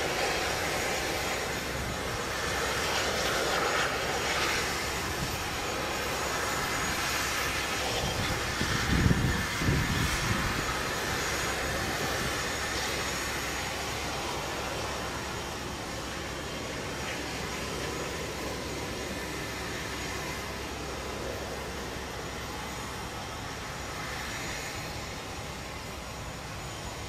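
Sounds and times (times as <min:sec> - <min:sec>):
helicopter turbine noise: 0:00.0 - 0:27.0.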